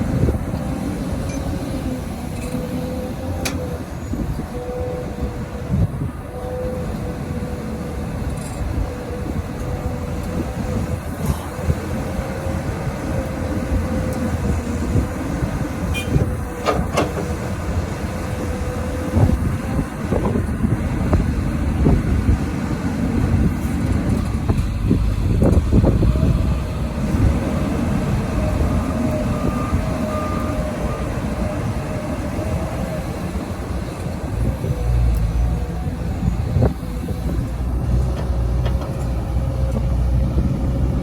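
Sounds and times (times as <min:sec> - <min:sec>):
excavator engine rumble with whine: 0:00.0 - 0:41.0.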